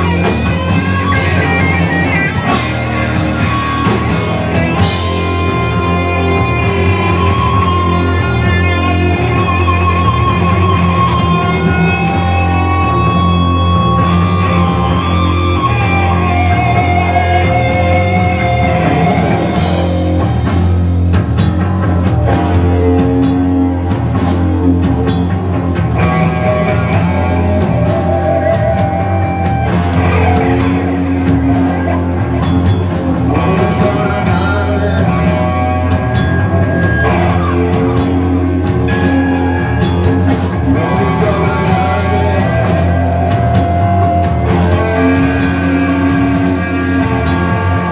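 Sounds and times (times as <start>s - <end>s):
drums and cymbals crashing: 0.0s - 14.0s, 18.4s - 47.9s
rock band playing live: 0.0s - 47.9s.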